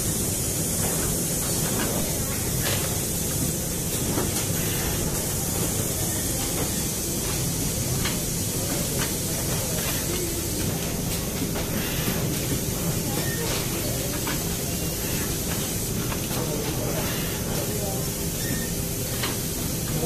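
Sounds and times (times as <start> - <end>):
constant air hiss: 0.0 - 20.0.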